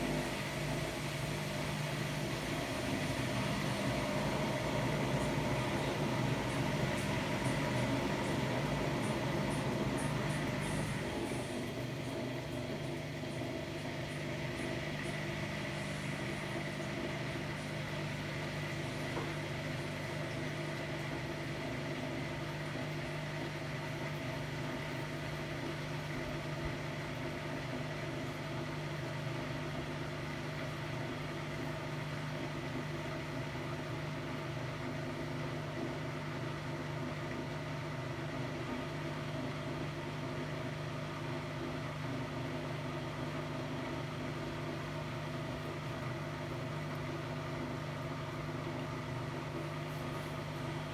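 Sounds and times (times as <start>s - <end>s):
washer-dryer humming: 0.0s - 50.9s.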